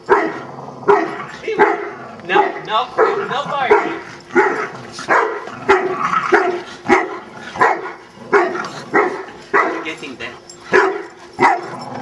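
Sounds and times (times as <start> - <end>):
dog barking: 0.1 - 10.0, 10.7 - 11.8.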